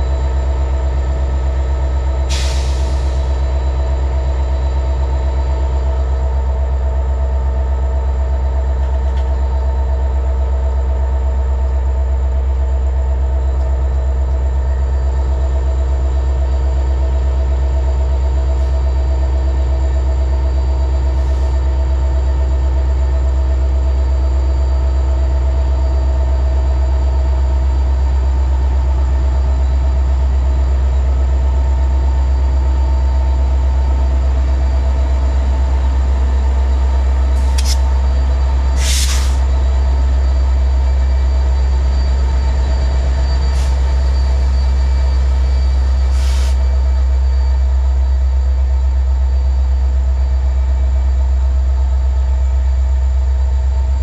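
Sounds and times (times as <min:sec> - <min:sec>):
diesel locomotive engine droning: 0:00.0 - 0:54.0.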